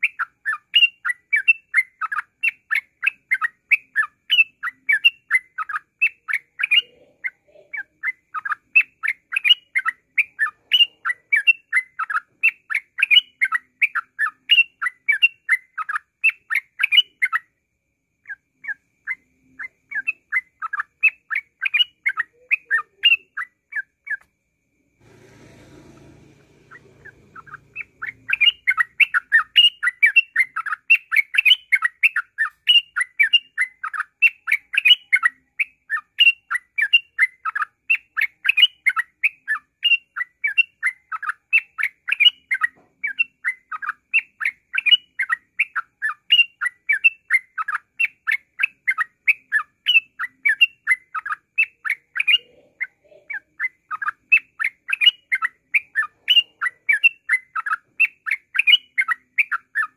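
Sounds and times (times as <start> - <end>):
bird chattering song: 0.0 - 17.6, 18.2 - 24.3, 25.0 - 59.9.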